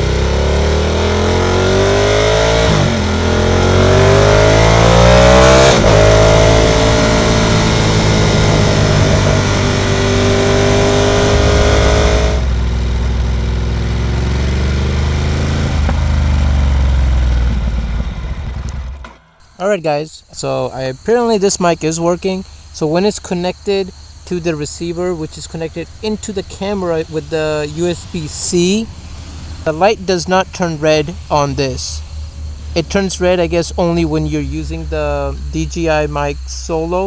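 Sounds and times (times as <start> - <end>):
motorcycle engine accelerating: 0.0 - 19.6, 22.4 - 37.0
wind and road noise: 0.0 - 19.6, 21.0 - 37.0.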